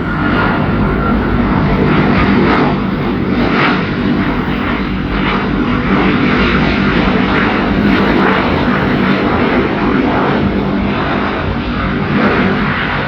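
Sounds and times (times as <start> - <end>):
jet airliner landing: 0.0 - 13.0.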